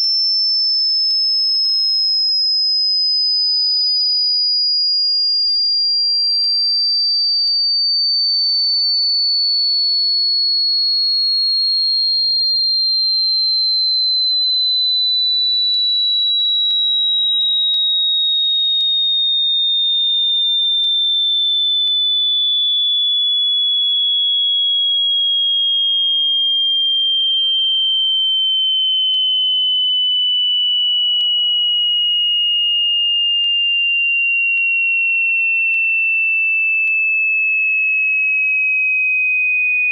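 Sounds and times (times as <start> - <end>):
sine tone sweeping downward: 0.0 - 5.8, 6.4 - 36.0, 39.5 - 39.9.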